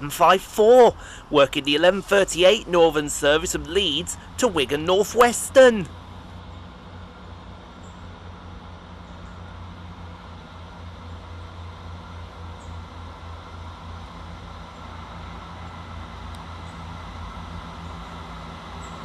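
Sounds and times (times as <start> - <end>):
train diesel engine humming: 0.0 - 19.0.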